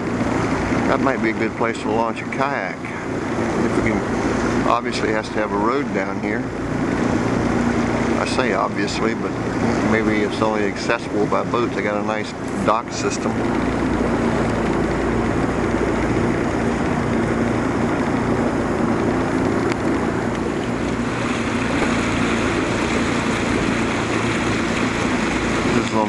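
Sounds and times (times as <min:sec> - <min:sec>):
outboard motor running: 0:00.0 - 0:26.0
wind and water hiss: 0:00.0 - 0:26.0.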